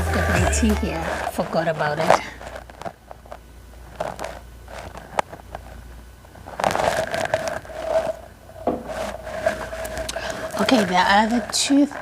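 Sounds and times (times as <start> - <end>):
rustling and scraping objects: 0.0 - 12.0.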